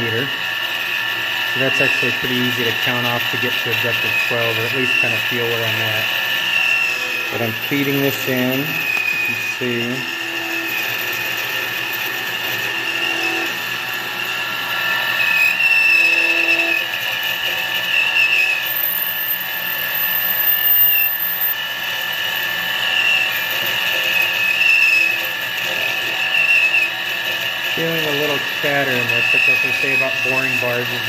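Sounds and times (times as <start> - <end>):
metal lathe wavering whine: 0.0 - 31.0.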